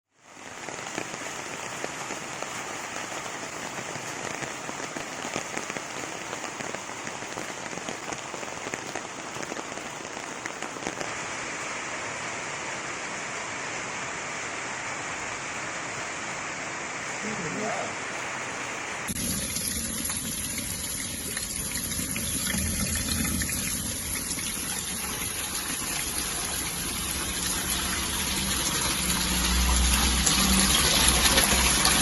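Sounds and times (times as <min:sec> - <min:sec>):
steady rain falling: 0:00.1 - 0:32.0.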